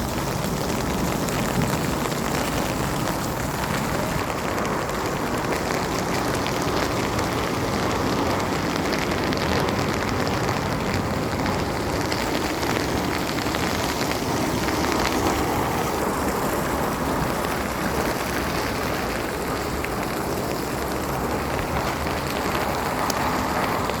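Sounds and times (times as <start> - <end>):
heavy rain on hard surfaces: 0.0 - 24.0.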